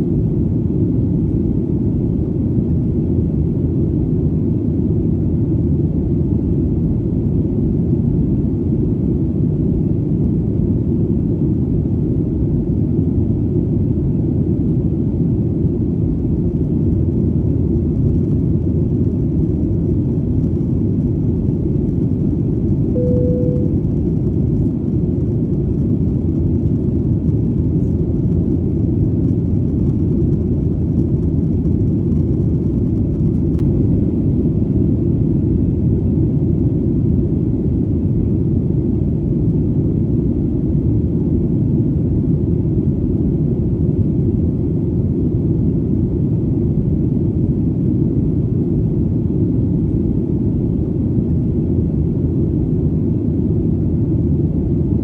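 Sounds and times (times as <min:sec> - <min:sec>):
airplane engine rumble in flight: 0:00.0 - 0:55.0.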